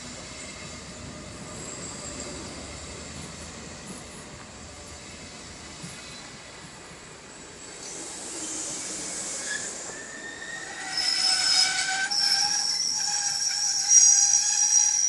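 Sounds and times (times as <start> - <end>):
rolling hiss of train: 0.0 - 15.0
train wheels squealing on rails: 0.0 - 15.0.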